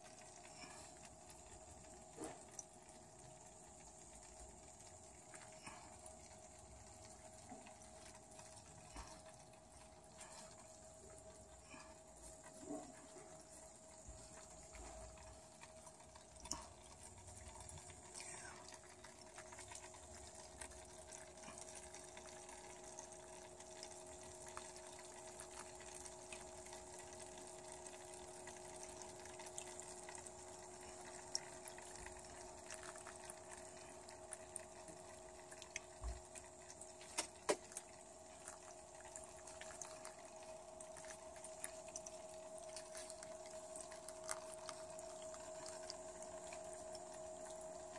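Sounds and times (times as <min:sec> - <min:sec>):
water pump humming: 0:00.0 - 0:47.9
water trickling and dripping: 0:00.0 - 0:47.9.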